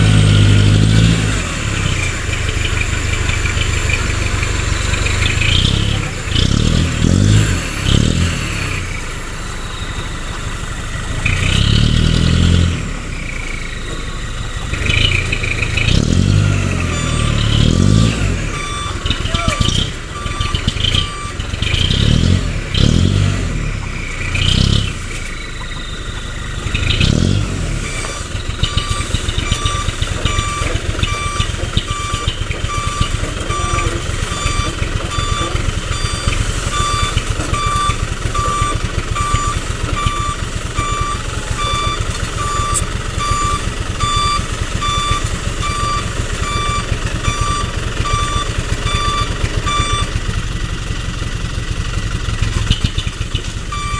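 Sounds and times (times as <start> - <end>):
diesel engine running: 0.0 - 53.9
truck reversing alarm beeping: 0.0 - 53.9.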